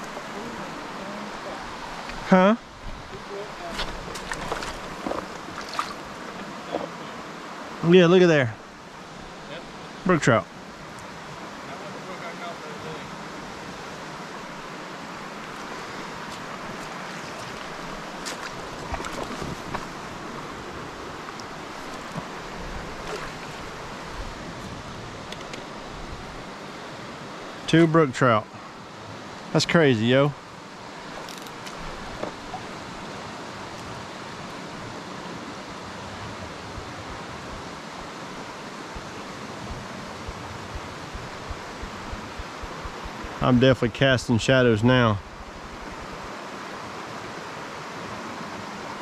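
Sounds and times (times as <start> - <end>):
creek rushing over rocks: 0.0 - 49.0.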